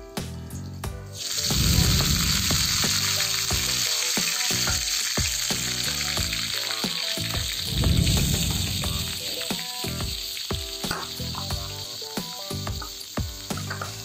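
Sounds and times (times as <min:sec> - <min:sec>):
food sizzling in hot oil: 0:00.5 - 0:14.0.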